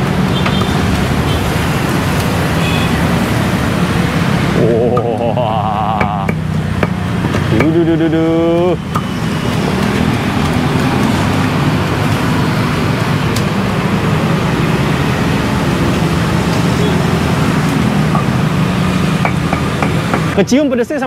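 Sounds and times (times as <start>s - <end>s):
street traffic noise: 0.0s - 21.0s.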